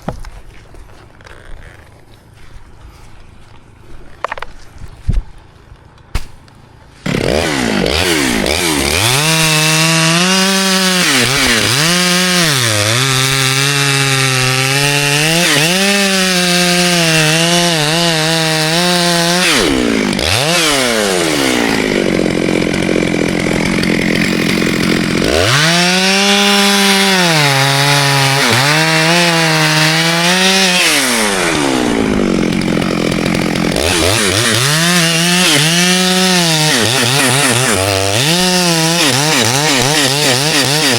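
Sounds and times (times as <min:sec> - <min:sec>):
chainsaw cutting wood: 0:06.0 - 0:40.9.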